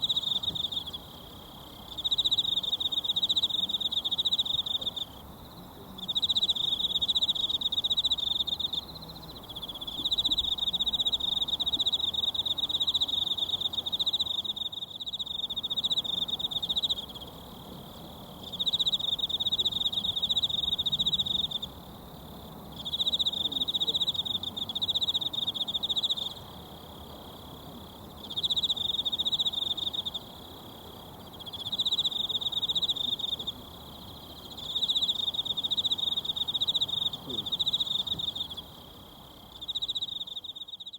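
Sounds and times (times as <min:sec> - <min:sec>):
pulsing insect trill: 0:00.0 - 0:40.9.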